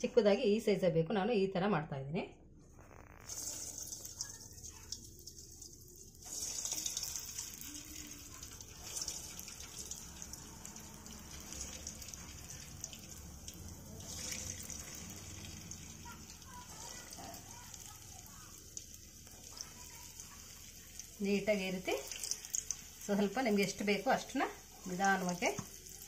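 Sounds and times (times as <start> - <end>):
batter deep-frying in oil: 2.8 - 26.0.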